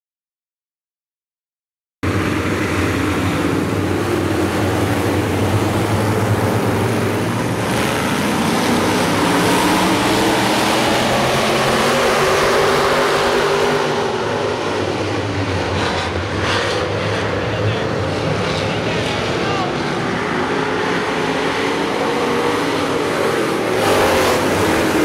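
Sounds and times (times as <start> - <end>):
stock car engines racing: 2.0 - 25.0.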